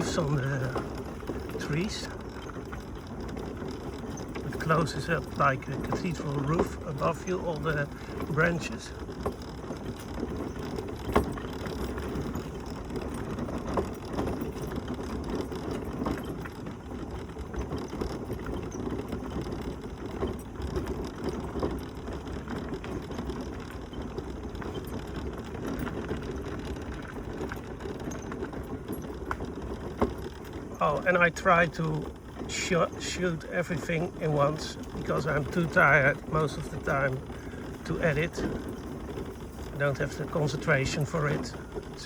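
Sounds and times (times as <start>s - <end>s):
scooter frame rattling: 0.0s - 42.0s.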